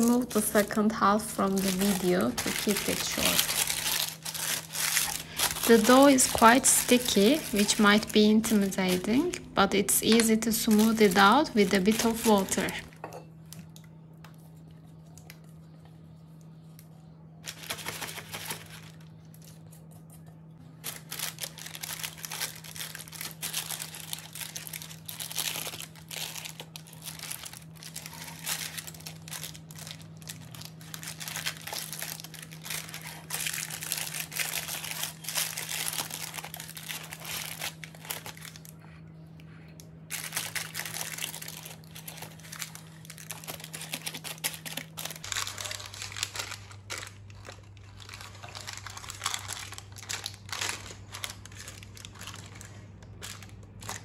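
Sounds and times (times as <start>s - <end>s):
parchment paper crinkling: 0.0s - 12.9s, 14.3s - 38.9s, 40.1s - 54.0s
steady low hum: 0.0s - 54.0s.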